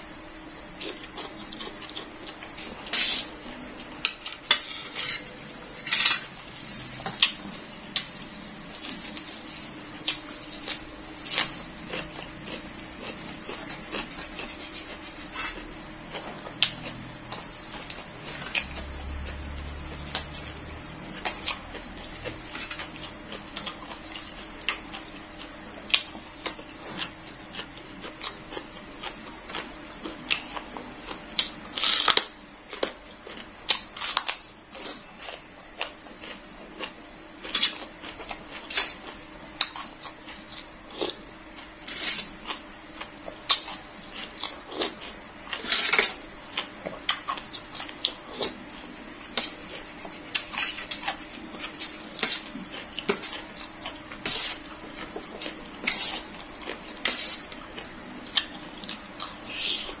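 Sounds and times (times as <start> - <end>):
crickets chirring: 0.0 - 60.0
person chewing food: 0.7 - 19.4, 20.1 - 60.0.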